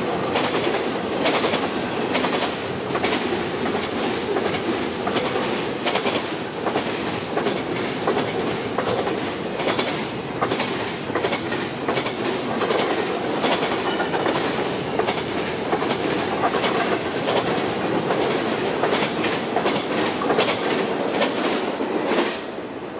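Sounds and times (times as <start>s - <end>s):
train wheels rumbling on rails: 0.0s - 22.9s
wheels clicking over rail joints: 0.4s - 22.4s.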